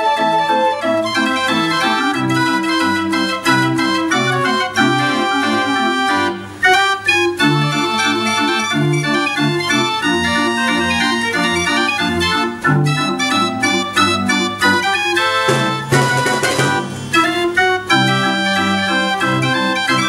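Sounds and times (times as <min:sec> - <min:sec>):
street organ playing: 0:00.0 - 0:20.0.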